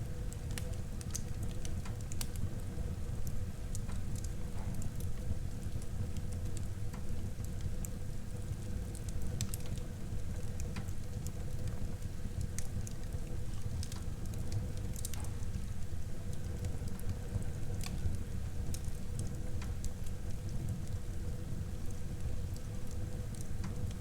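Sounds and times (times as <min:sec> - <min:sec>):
wood crackling and popping: 0:00.2 - 0:08.0, 0:08.6 - 0:09.8, 0:10.4 - 0:24.0.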